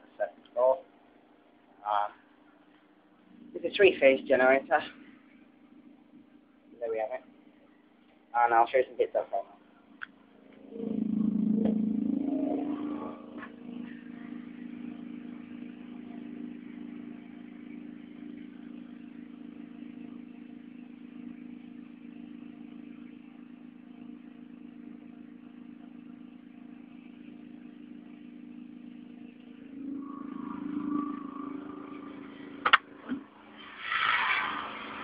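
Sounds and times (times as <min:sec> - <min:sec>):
generator engine hum: 0:00.0 - 0:35.0.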